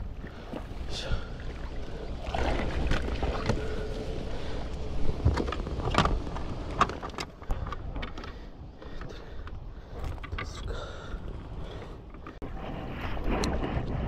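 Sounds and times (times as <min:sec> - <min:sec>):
water against kayak hull: 0:00.0 - 0:14.0.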